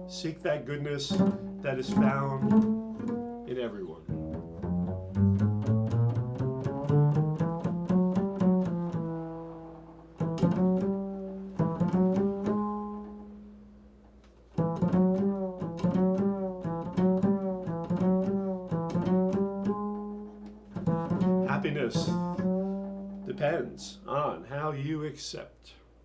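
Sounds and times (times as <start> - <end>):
upright bass plucked: 0.0 - 25.1.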